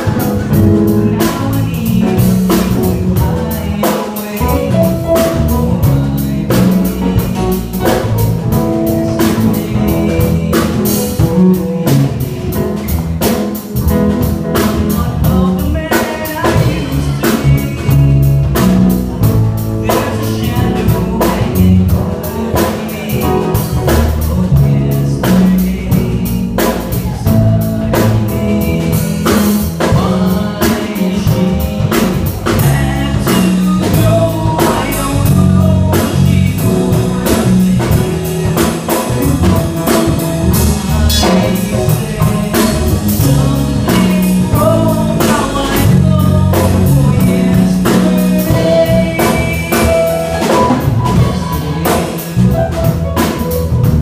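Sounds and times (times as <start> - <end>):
person singing into microphone: 0.0 - 53.4
live band playing: 0.0 - 54.0.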